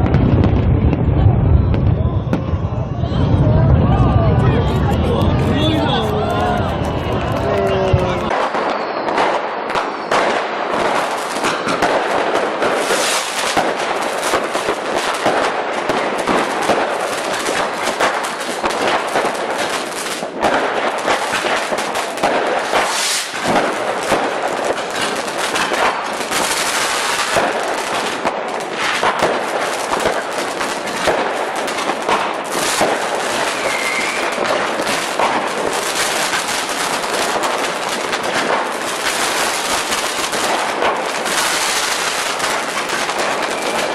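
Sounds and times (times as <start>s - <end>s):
fireworks crackling and banging: 0.0s - 43.9s.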